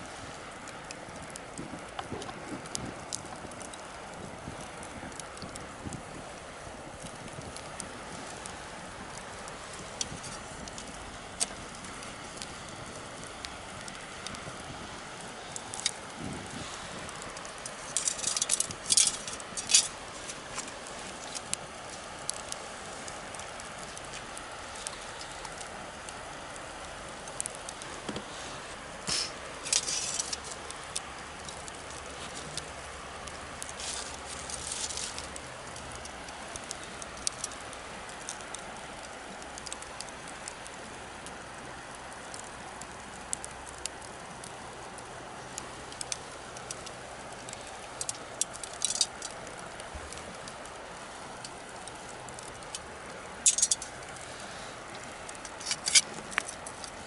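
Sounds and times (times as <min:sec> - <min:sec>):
bonfire crackling: 0:00.0 - 0:57.0
sharp pops of fire: 0:00.0 - 0:57.0.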